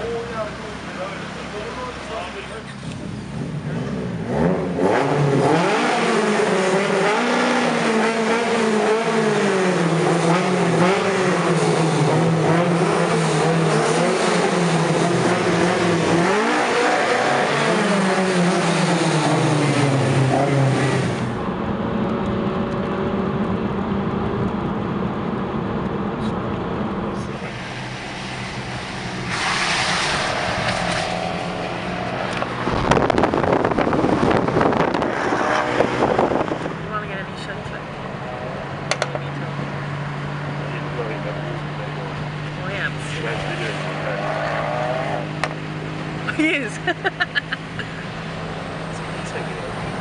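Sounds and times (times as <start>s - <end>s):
car engine and road noise: 0.0s - 50.0s
car engine revving: 0.0s - 50.0s.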